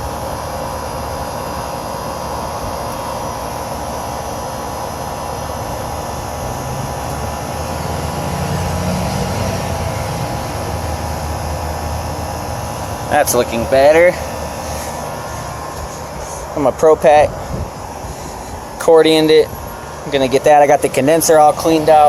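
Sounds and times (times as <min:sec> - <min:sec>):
air conditioning unit humming: 0:00.0 - 0:22.0.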